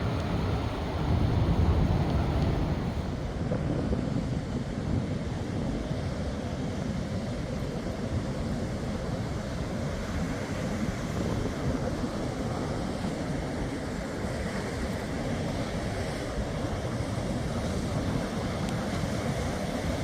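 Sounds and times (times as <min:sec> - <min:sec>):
sea waves washing on shore: 0:00.0 - 0:20.0
wind buffeting microphone: 0:00.0 - 0:20.0.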